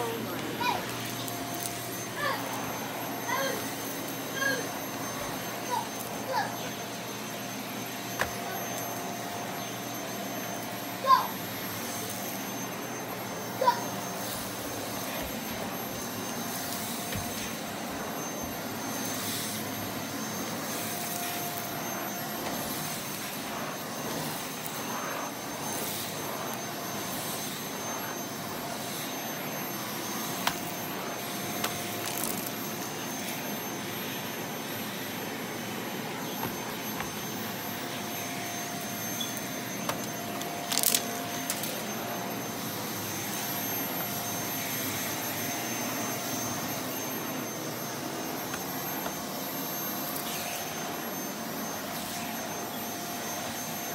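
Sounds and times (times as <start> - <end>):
stick vacuum running on carpet: 0.0 - 53.9.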